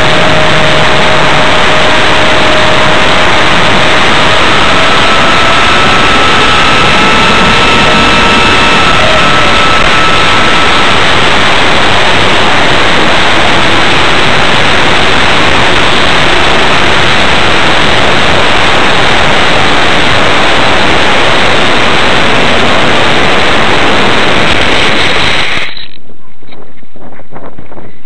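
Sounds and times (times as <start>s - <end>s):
wind buffeting microphone: 0.0s - 25.7s
faint whine: 0.0s - 28.0s.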